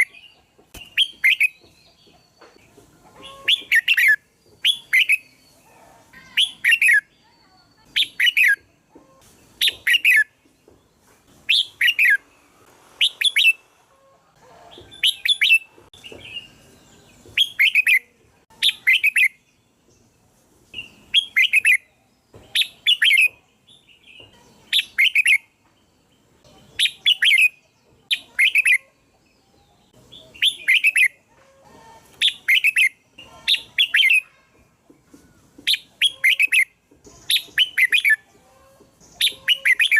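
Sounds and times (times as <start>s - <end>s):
bird singing warbled phrases: 0.0s - 10.4s, 14.9s - 31.3s, 32.1s - 34.7s, 35.4s - 39.9s.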